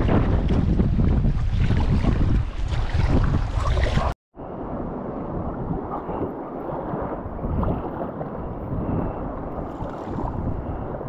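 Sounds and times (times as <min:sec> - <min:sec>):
water lapping against kayak hull: 0:00.0 - 0:04.2, 0:05.6 - 0:11.0
wind on microphone: 0:00.0 - 0:11.0.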